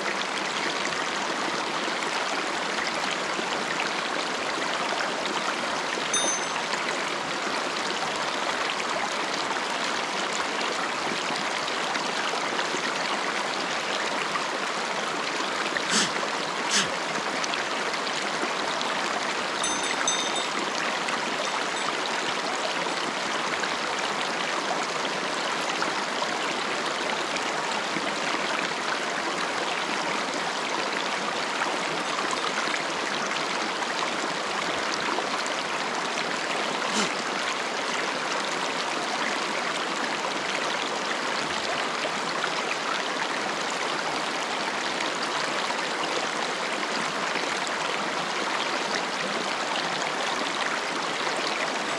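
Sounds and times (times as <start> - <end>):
stream running over rocks: 0.0 - 51.9.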